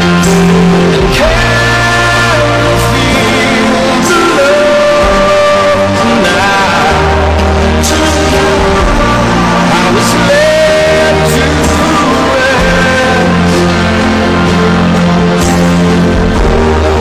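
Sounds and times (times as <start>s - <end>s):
song with sung vocals: 0.0s - 17.0s.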